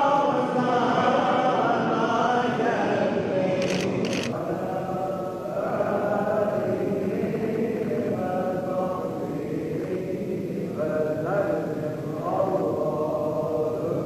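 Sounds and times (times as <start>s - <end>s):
men chanting: 0.0s - 14.0s.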